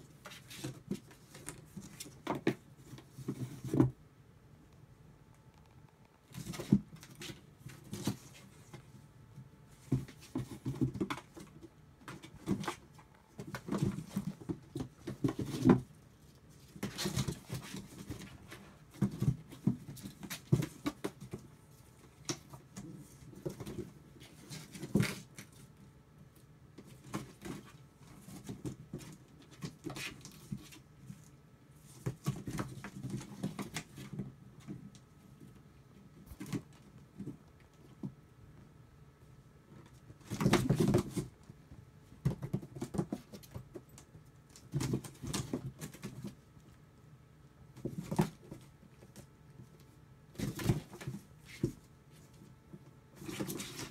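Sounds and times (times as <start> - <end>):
kittens scrambling in cardboard box: 0.0 - 4.0, 6.3 - 9.0, 9.7 - 25.8, 26.7 - 38.2, 39.7 - 46.5, 47.7 - 53.9.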